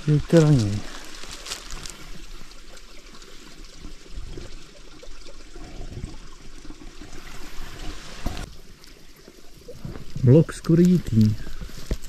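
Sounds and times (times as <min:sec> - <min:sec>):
brook trickling: 0:00.0 - 0:12.0.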